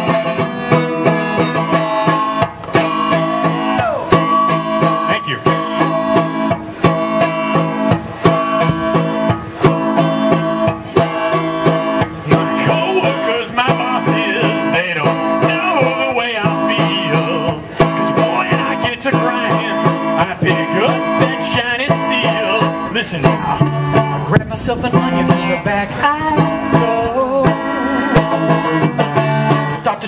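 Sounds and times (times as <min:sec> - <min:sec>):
wavering higher melody line: 0:00.0 - 0:24.3
banjo picking: 0:00.0 - 0:30.0.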